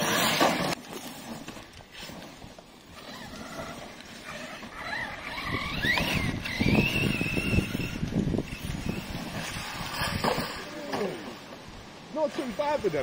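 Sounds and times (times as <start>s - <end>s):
electric rc car motor whining: 0.0s - 11.6s
rough rushing noise: 0.0s - 13.0s.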